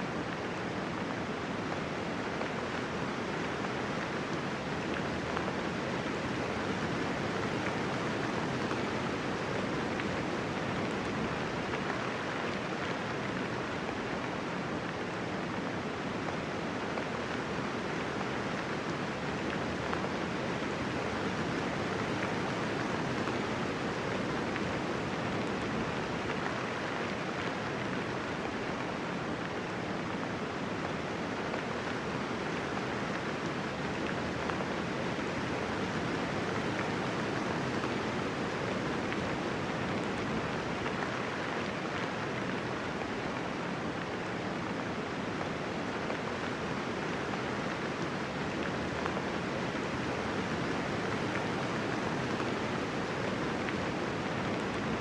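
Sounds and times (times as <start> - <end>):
steady rainfall hiss: 0.0 - 55.0.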